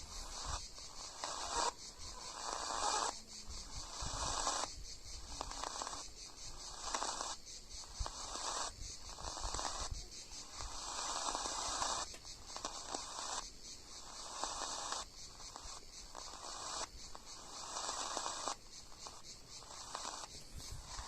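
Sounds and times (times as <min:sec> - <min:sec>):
radio static hiss: 0:00.0 - 0:21.0
rough low hiss cutting in and out: 0:00.0 - 0:21.0.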